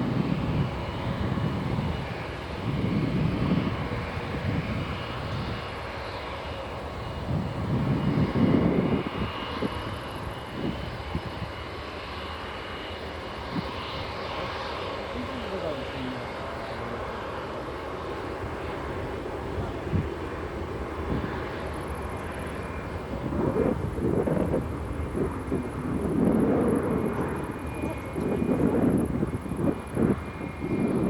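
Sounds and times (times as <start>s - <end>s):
jet engines rumbling: 0.0s - 31.0s.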